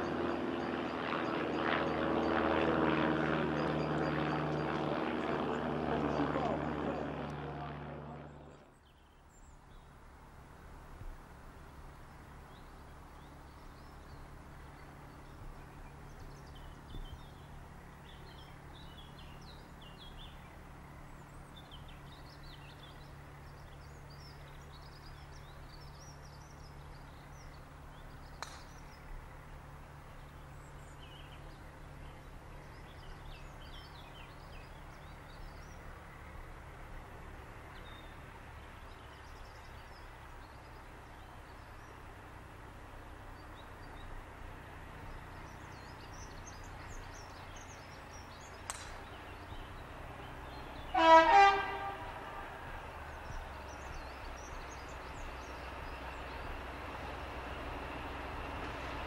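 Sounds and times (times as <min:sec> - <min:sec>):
low hum: 0:00.0 - 0:59.0
small birds chirping: 0:11.5 - 0:59.0.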